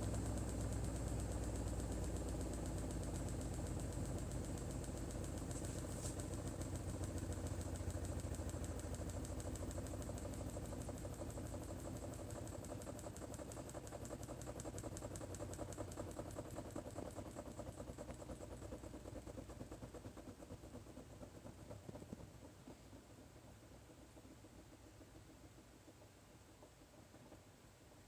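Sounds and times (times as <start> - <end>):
washing machine humming and pulsing: 0.0 - 28.0.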